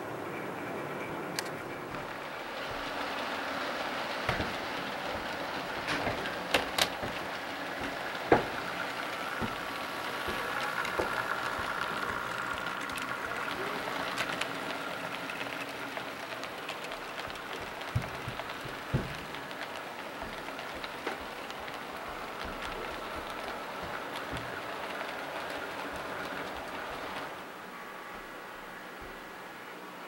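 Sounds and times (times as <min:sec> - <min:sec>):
model train cars clattering: 0:00.0 - 0:29.8
model train motor whine: 0:01.4 - 0:27.4.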